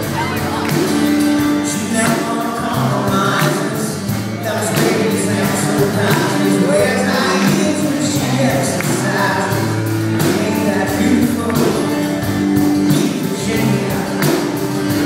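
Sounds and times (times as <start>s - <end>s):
live rock band: 0.0s - 15.0s
man singing lead vocal: 0.0s - 15.0s.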